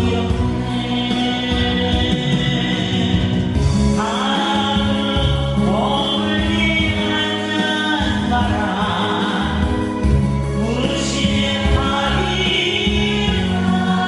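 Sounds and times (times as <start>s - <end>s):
choir singing: 0.0s - 9.8s, 10.6s - 14.0s
instrumental accompaniment with bass: 0.0s - 14.0s.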